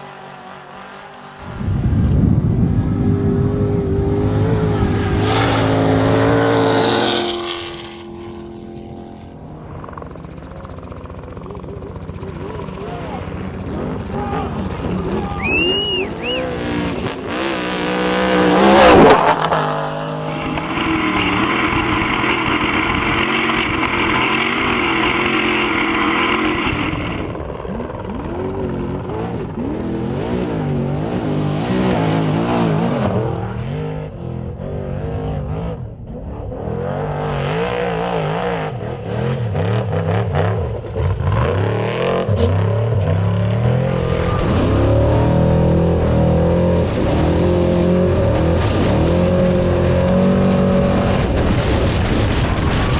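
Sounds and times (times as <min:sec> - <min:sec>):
race truck engines revving: 0:00.0 - 0:52.9.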